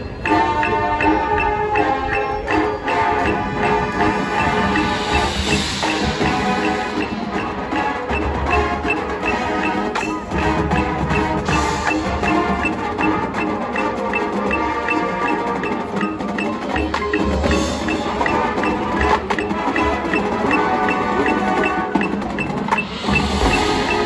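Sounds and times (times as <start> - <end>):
high repeating tick: 0.0 - 24.0
mallet percussion: 0.0 - 24.0
marching band playing chords: 0.0 - 24.0.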